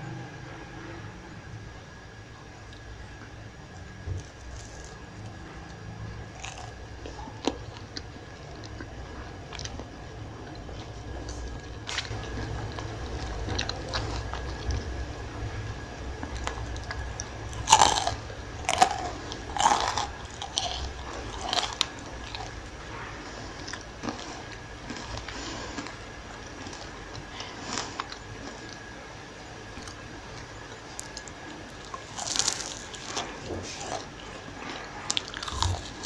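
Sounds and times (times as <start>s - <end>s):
crunching fried food: 3.7s - 15.3s, 16.2s - 36.0s
chewing: 4.2s - 14.9s, 16.2s - 28.9s, 29.7s - 36.0s.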